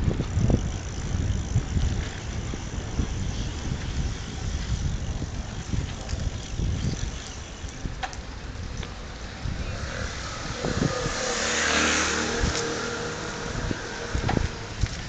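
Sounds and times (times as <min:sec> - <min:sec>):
motor scooter passing: 0:00.0 - 0:15.0
wind rumble on microphone: 0:00.0 - 0:15.0.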